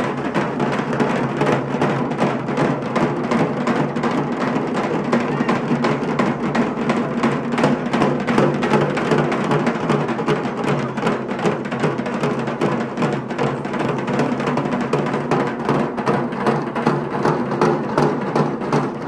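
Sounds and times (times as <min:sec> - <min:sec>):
fast loud drumming on barrel drums: 0:00.0 - 0:19.0.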